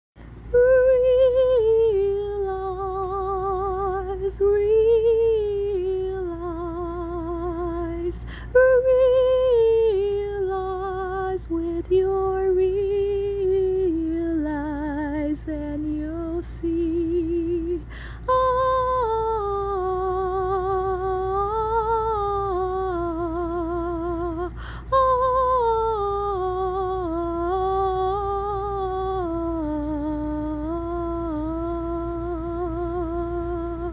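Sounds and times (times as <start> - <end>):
faint low hum: 0.2 - 33.9
woman singing unaccompanied: 0.5 - 33.9.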